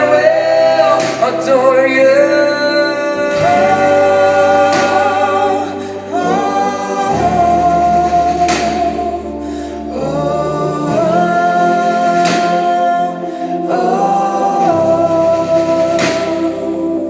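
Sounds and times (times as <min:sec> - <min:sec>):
low keyboard and bass tones: 0:00.0 - 0:17.0
voices singing long notes: 0:00.0 - 0:17.0.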